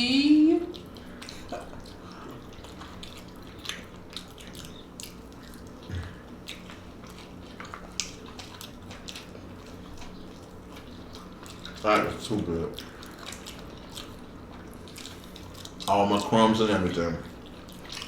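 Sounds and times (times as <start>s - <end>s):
low steady hum: 0.0s - 18.0s
chewing with mouth clicks: 0.1s - 18.0s.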